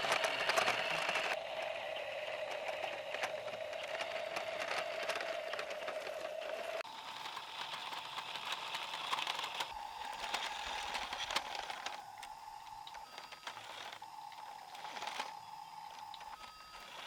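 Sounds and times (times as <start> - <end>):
small clicks and rattles: 0.0 - 1.4, 2.4 - 17.0
small motor whining: 0.0 - 17.0.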